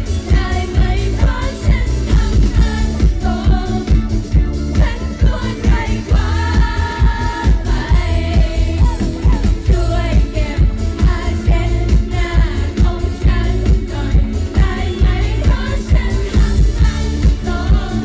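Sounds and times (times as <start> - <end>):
women singing together: 0.0 - 4.1, 4.7 - 18.0
backing music with beat: 0.0 - 18.0.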